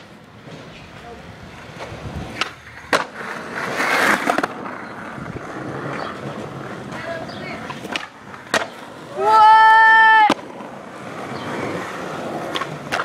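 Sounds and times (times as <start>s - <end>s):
skateboard clacks: 0.0s - 13.0s
skateboard wheels rolling: 0.0s - 13.0s.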